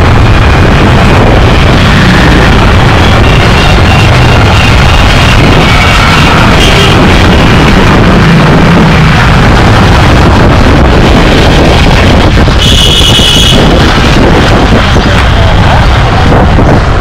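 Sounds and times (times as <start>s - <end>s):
city street noise: 0.0s - 17.0s
wind buffeting microphone: 0.0s - 17.0s.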